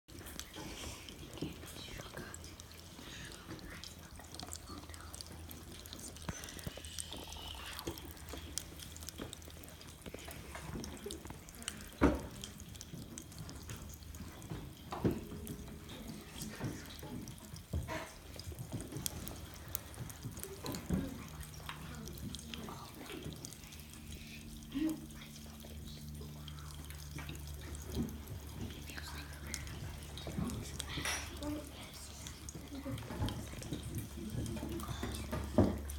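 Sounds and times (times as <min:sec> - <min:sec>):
drink fizzing: 0:00.1 - 0:35.9.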